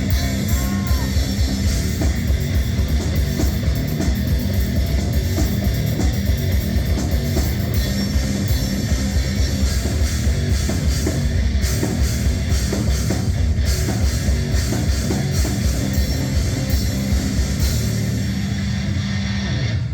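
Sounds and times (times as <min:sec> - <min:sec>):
rock music through pa system: 0:00.0 - 0:19.9.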